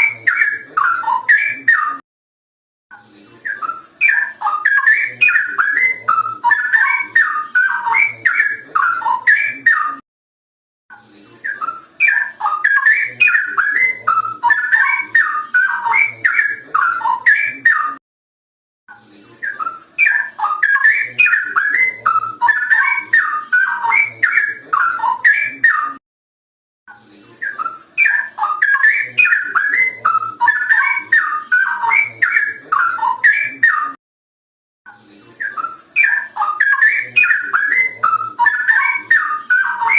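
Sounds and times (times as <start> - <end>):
bulbul singing whistled song: 0.0 - 2.0, 3.4 - 10.0, 11.4 - 18.0, 19.4 - 26.0, 27.4 - 34.0, 35.4 - 39.9.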